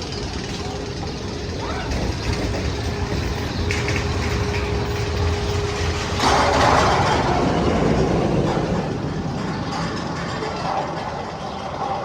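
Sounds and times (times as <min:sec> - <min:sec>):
roller coaster train rumbling on track: 0:00.0 - 0:12.0.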